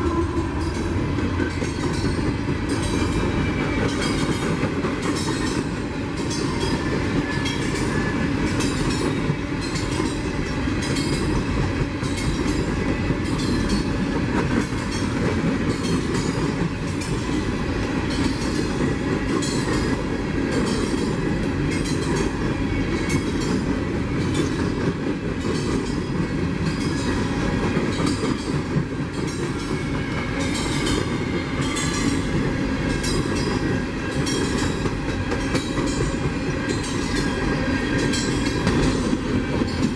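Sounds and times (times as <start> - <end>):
train rumbling: 0.0 - 39.9
train wheels clicking over rail joints: 0.0 - 39.9.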